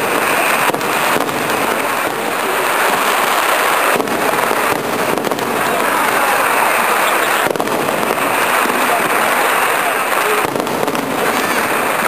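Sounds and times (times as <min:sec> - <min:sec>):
fireworks crackling: 0:00.0 - 0:12.0
sharp firework bangs: 0:00.0 - 0:12.0.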